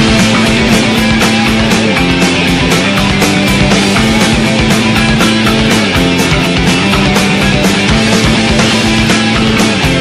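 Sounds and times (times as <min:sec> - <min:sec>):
electric guitar: 0:00.0 - 0:10.0
steady drum beat: 0:00.0 - 0:10.0.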